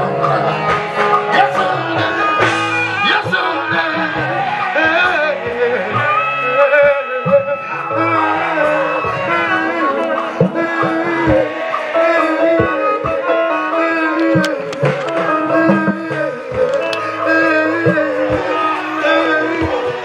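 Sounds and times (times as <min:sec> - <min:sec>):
gospel band playing: 0:00.0 - 0:20.0
voices singing: 0:00.0 - 0:20.0.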